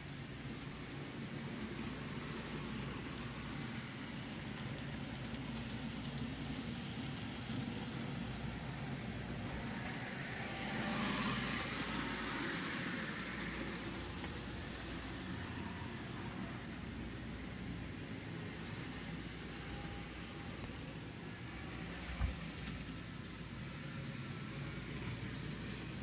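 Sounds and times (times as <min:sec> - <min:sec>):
model train motor hum: 0:00.0 - 0:26.0
train wheel rumble: 0:00.0 - 0:26.0.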